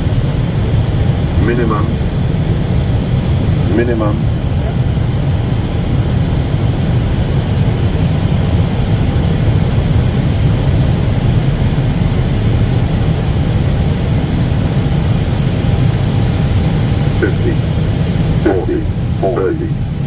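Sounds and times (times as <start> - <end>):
airliner cockpit engine noise: 0.0 - 20.0.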